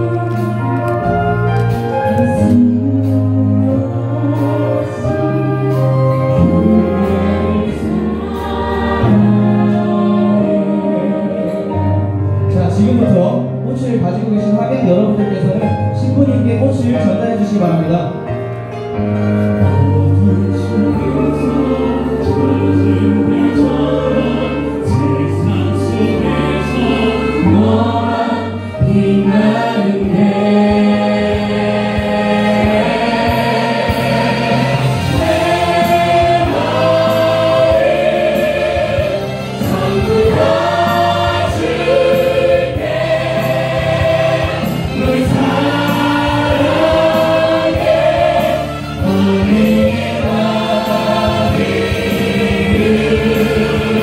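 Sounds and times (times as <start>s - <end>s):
voices singing in harmony: 0.0s - 13.3s, 19.5s - 54.0s
held bass notes: 0.0s - 54.0s
instrumental backing: 0.0s - 54.0s.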